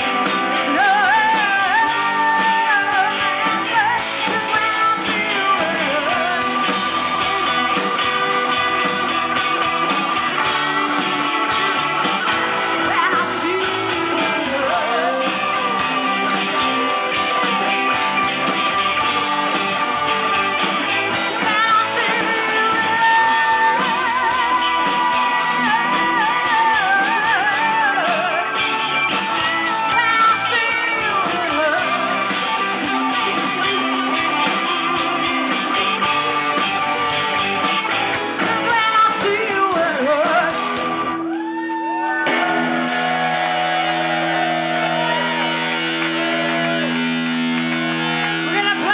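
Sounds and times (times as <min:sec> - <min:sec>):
bass guitar: 0:00.0 - 0:48.9
drums: 0:00.0 - 0:48.9
electric guitars: 0:00.0 - 0:48.9
wavering lead guitar line: 0:00.0 - 0:48.9.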